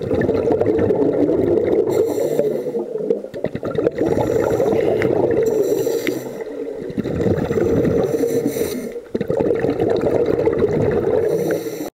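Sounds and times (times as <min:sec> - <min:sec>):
underwater bubbling and gurgling: 0:00.0 - 0:11.9.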